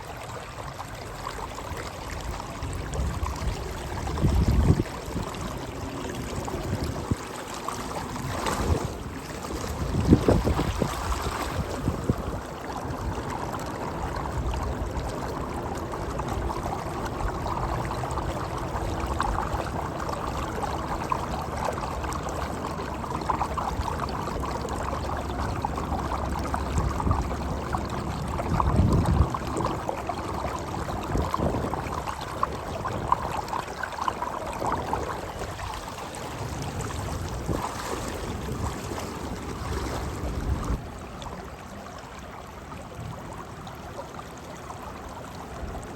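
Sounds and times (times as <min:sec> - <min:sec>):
shallow river water running: 0:00.0 - 0:45.9.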